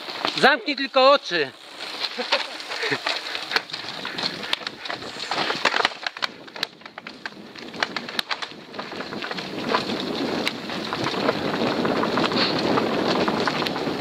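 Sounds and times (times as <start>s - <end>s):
bike tyres crunching over stones: 0.0s - 14.0s
bike clicking and knocking: 1.8s - 14.0s.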